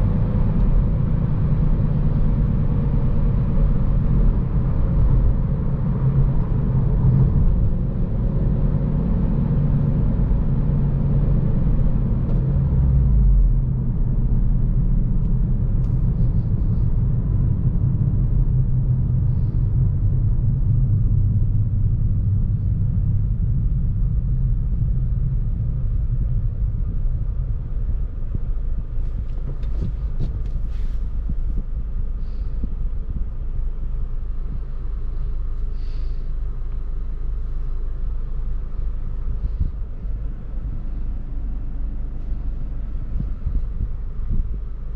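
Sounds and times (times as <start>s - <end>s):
car engine running: 0.0s - 44.9s
road rumble: 0.0s - 44.9s.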